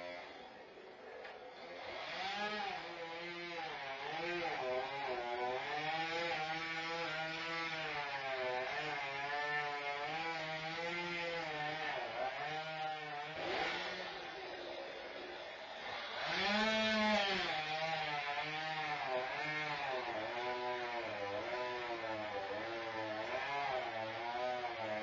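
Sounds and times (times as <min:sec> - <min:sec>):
chainsaw cutting: 0:00.0 - 0:25.0.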